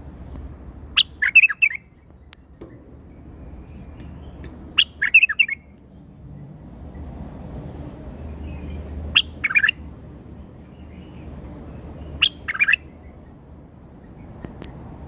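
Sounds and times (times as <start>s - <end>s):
bird chirping: 0.2s - 7.1s, 8.2s - 9.8s, 10.6s - 14.8s.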